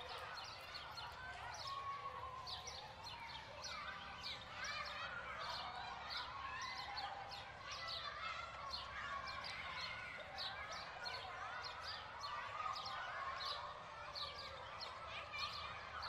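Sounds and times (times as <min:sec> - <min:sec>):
children calling and playing: 0:00.0 - 0:16.0.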